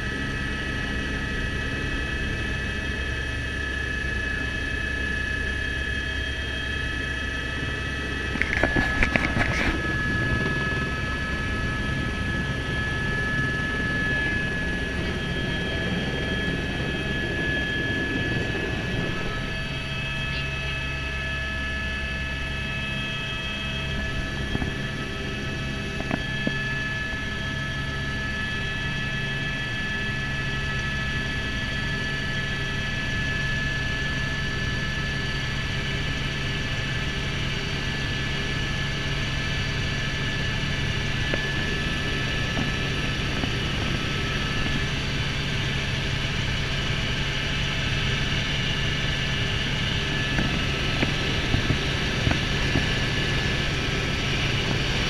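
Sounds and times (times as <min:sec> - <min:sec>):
helicopter engine and rotors: 0:00.0 - 0:55.0.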